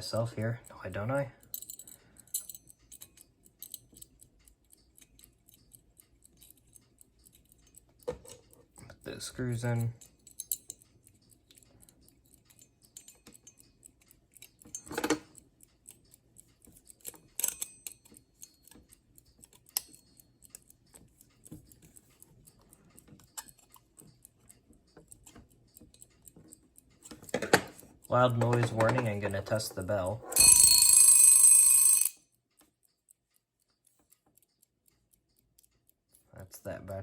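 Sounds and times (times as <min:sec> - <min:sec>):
small parts clicking and tapping: 0:00.0 - 0:37.0.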